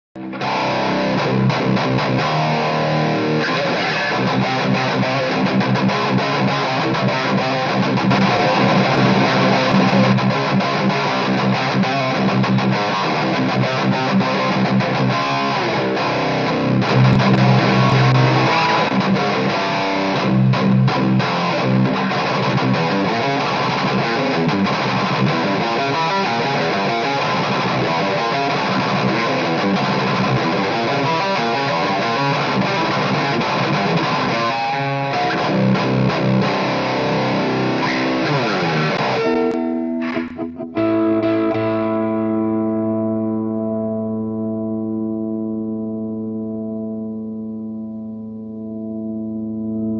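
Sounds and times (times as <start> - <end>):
electric guitar chords and notes: 0.2 - 49.9.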